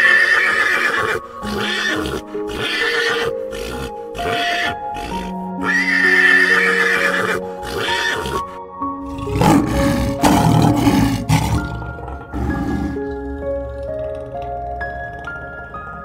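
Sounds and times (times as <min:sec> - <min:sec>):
horse whinnying: 0:00.0 - 0:14.3
background music: 0:00.0 - 0:16.0
lions growling: 0:01.4 - 0:05.9, 0:07.6 - 0:16.0.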